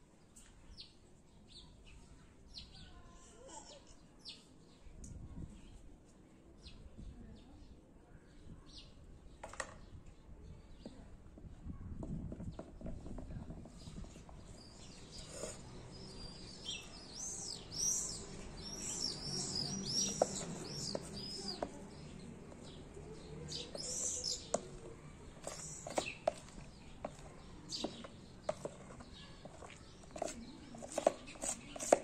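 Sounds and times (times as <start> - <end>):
small birds chirping: 0.2 - 5.9, 6.5 - 32.0.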